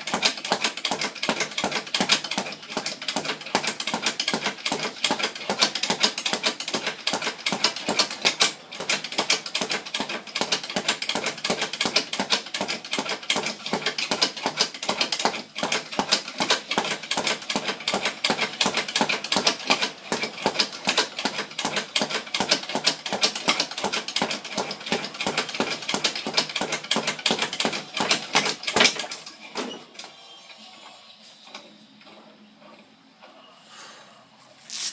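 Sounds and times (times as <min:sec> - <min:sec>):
speed bag drumming: 0:00.0 - 0:29.3.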